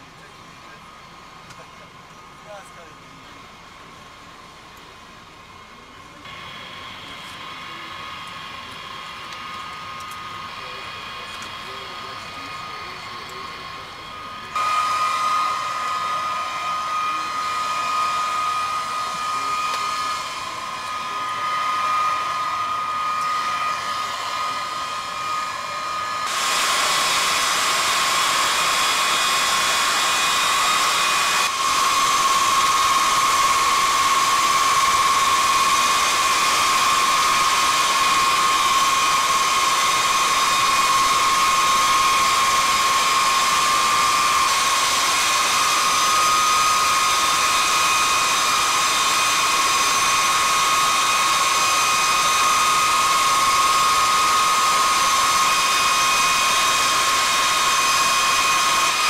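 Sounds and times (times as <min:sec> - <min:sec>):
jet turbine whine: 0:00.0 - 0:59.0.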